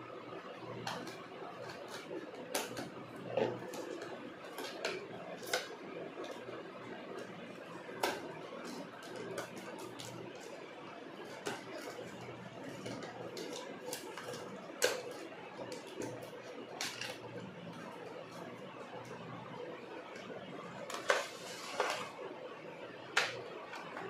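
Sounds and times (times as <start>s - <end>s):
plastic wrap and cardboard crackling: 0.6s - 22.3s.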